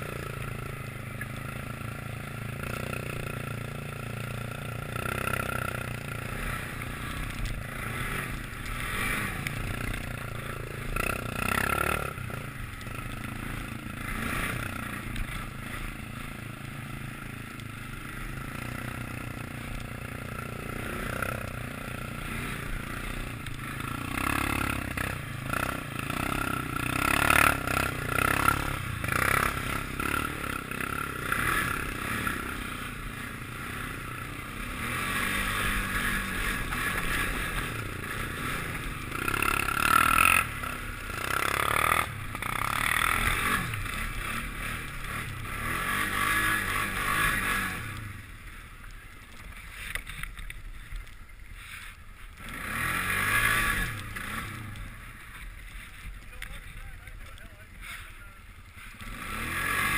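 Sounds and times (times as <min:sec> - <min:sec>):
atv engine running: 0:00.0 - 0:59.9
tyres through mud and slush: 0:00.0 - 0:59.9.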